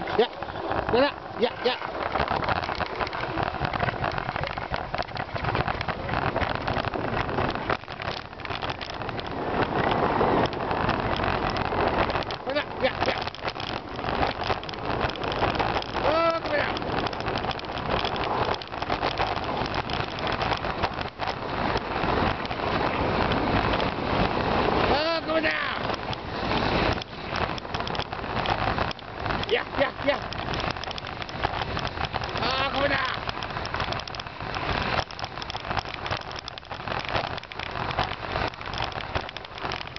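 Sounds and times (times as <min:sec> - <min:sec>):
tyres and paws crunching snow: 0:00.0 - 0:39.9
wind rush over microphone: 0:00.0 - 0:39.9.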